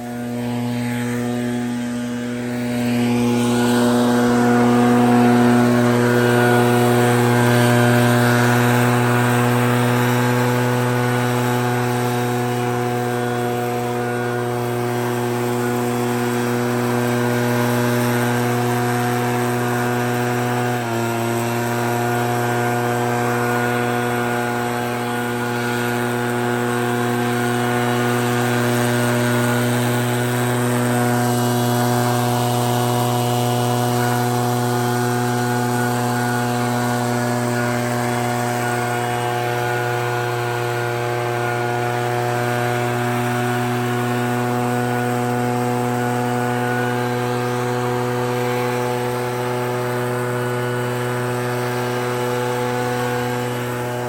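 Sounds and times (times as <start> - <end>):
leaf blower engine running: 0.0 - 54.0.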